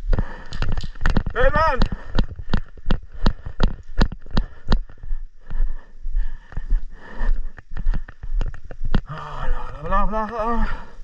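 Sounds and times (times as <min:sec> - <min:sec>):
footsteps jogging: 0:00.0 - 0:11.0.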